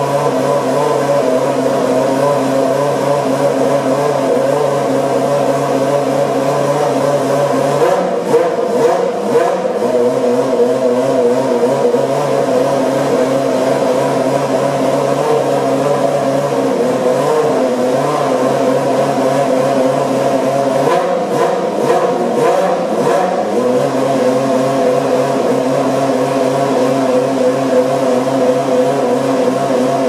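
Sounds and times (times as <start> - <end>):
racing car engine idling: 0.0 - 30.0.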